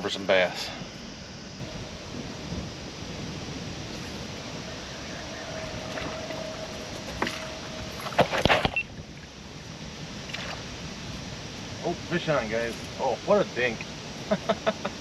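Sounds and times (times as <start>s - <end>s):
faint steady hum: 0.0s - 15.0s
wind: 0.0s - 15.0s
water noise: 1.1s - 15.0s.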